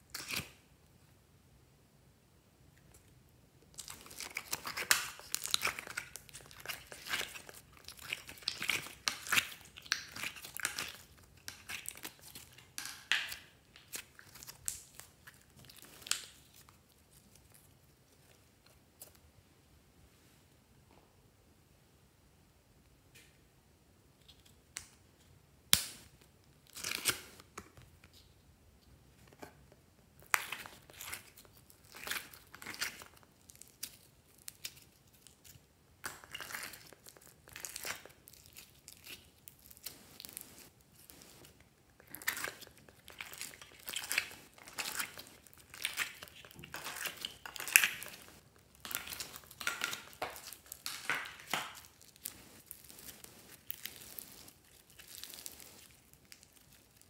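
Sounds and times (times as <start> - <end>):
foam clay crackling and crinkling: 2.8 - 19.3, 24.2 - 57.0.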